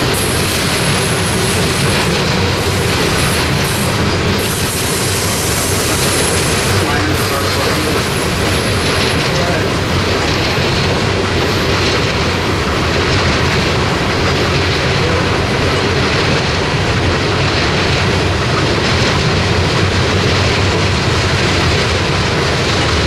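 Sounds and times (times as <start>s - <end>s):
freight train wheels on rail: 0.0s - 23.0s.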